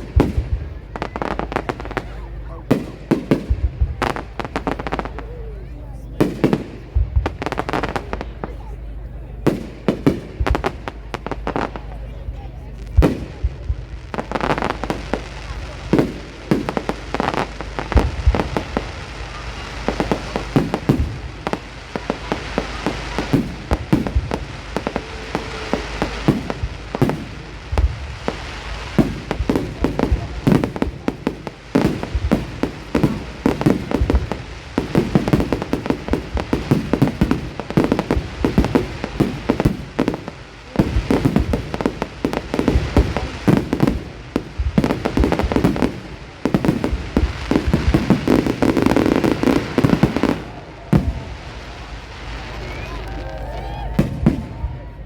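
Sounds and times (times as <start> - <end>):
fireworks exploding: 0.0 - 55.0.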